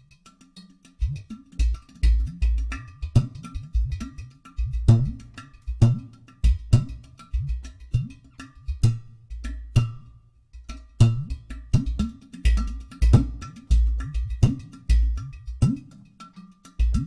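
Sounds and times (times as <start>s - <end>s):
clay hand drum slaps: 0.3s - 17.0s.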